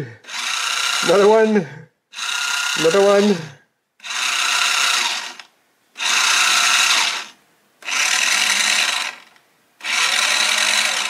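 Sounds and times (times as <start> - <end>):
toy car motor whirring: 0.2 - 1.3, 2.1 - 11.0.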